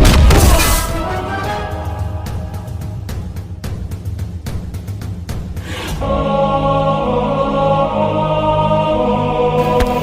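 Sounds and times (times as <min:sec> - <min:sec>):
dramatic action film score: 0:00.0 - 0:10.0.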